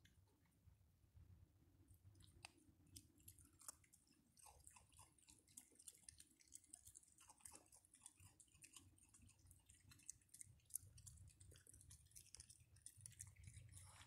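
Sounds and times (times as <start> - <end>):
raccoons chewing dry food: 2.1 - 14.0.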